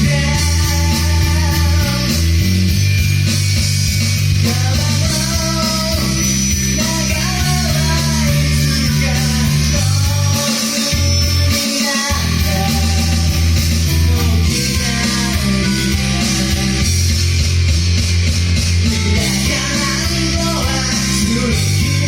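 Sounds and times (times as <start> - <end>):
bass line: 0.0 - 22.0
rock music with guitar: 0.0 - 22.0.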